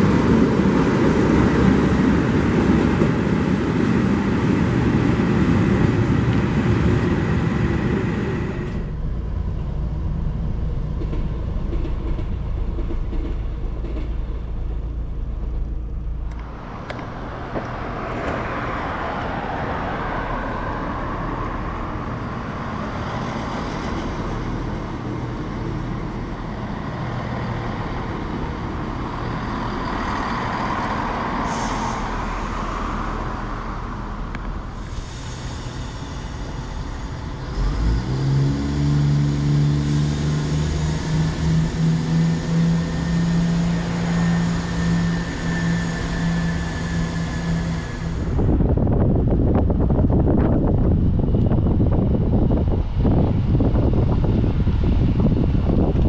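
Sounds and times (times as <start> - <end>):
diesel locomotive running: 0.0 - 56.0
train engines and wheels rumbling: 0.0 - 56.0.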